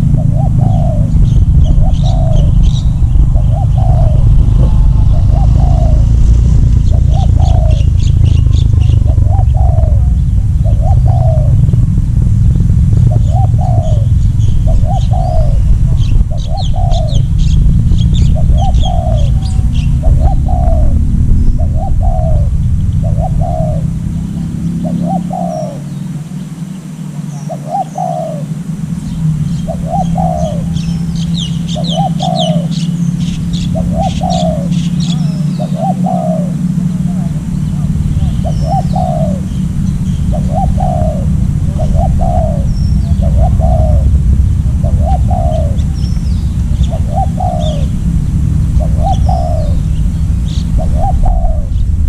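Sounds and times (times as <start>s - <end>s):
dove cooing: 0.0s - 12.0s, 12.9s - 52.0s
low rumbling noise: 0.0s - 52.0s
small birds chirping: 0.0s - 52.0s.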